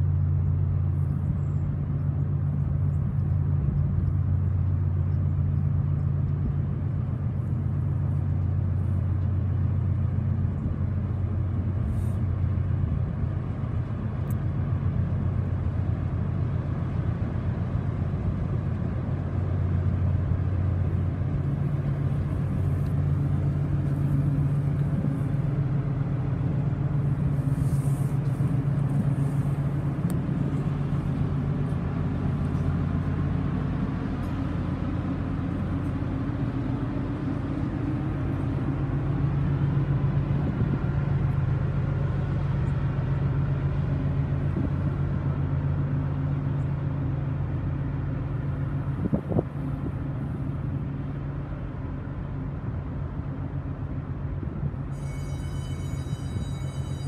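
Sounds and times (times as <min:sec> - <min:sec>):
ship engines droning: 0:00.0 - 0:57.0.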